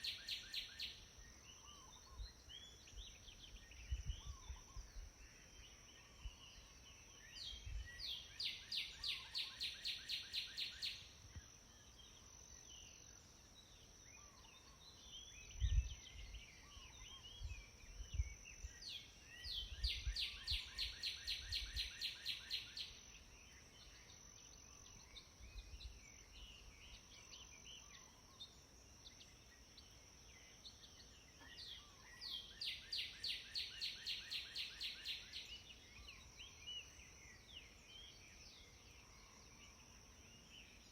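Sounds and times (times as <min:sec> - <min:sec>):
faint bird chirps: 0:00.0 - 0:40.9.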